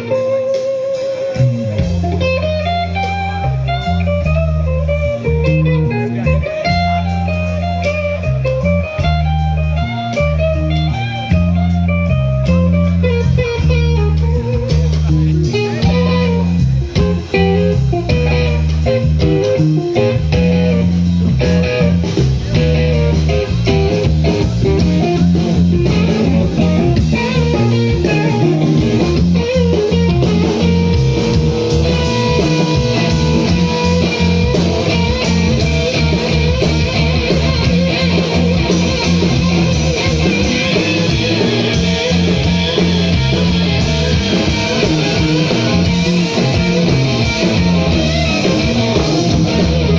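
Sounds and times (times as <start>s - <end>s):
bass guitar: 0.0s - 49.9s
electric guitar lines: 0.0s - 49.9s
steady drums: 0.0s - 49.9s.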